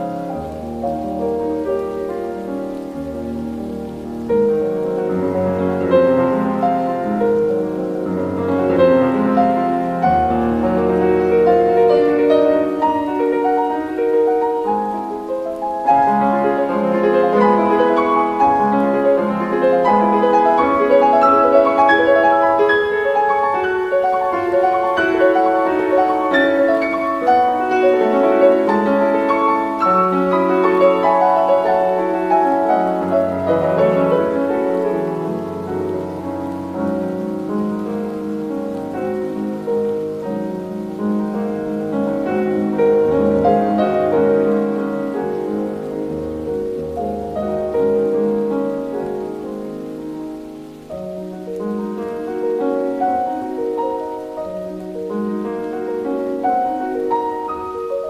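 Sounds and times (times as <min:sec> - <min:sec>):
classical piano piece: 0:00.0 - 0:58.0.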